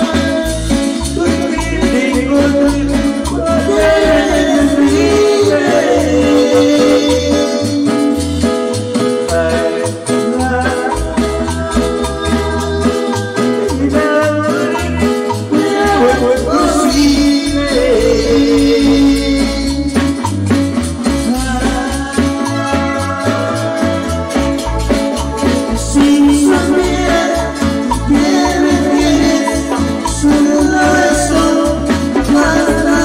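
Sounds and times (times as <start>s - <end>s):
loud latin dance music: 0.0s - 33.0s.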